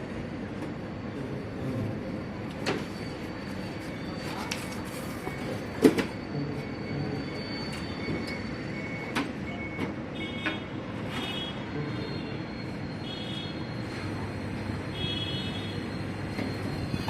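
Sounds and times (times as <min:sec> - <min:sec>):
workshop background noise: 0:00.0 - 0:17.0.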